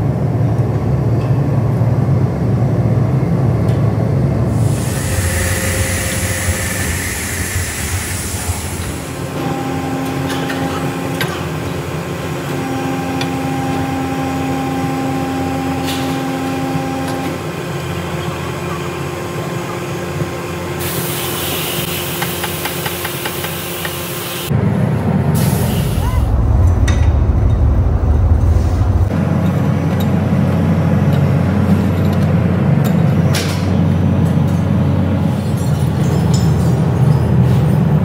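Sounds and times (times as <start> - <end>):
furnace machinery drone: 0.0 - 38.0.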